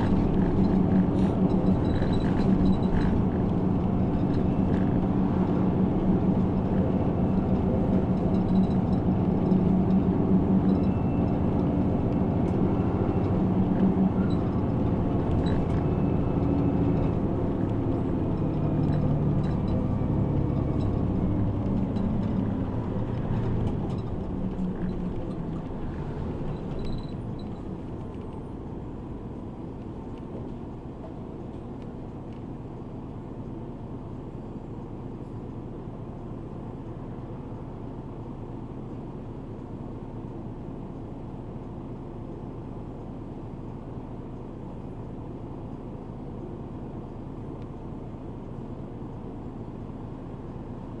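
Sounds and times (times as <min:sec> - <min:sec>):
bus engine: 0:00.0 - 0:51.0
road noise: 0:00.0 - 0:51.0.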